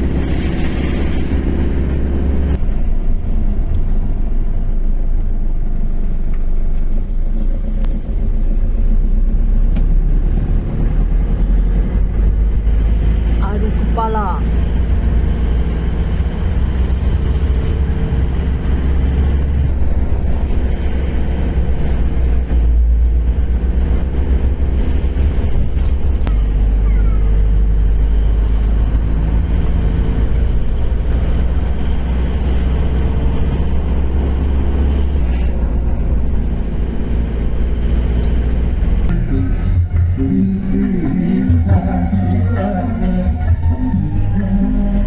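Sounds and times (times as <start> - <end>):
vehicle engine and road rumble: 0.0 - 45.0.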